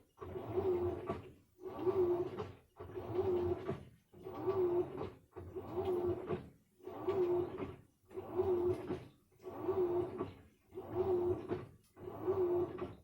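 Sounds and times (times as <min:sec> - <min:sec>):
washing machine load churning: 0:00.2 - 0:13.0.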